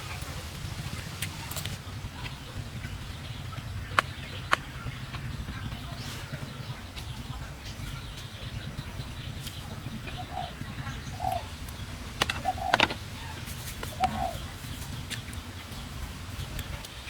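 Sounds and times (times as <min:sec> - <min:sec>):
bird calling in low notes: 0:00.0 - 0:15.1
steady low rumble: 0:00.0 - 0:17.0.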